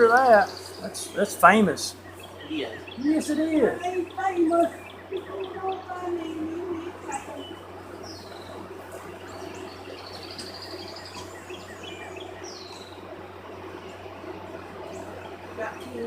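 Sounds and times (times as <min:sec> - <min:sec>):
birds chirping and whistling: 0:00.0 - 0:16.0
steady low hum: 0:00.0 - 0:16.0.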